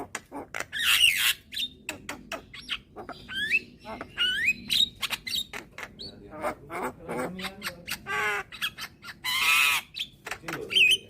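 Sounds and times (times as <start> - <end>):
bird harsh rasping squawks: 0.0 - 11.0.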